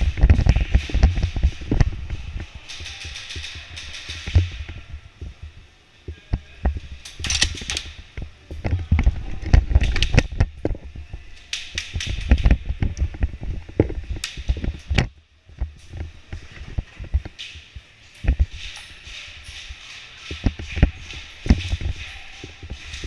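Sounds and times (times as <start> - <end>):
knocks and clatter: 0.0 - 5.4, 6.3 - 23.0.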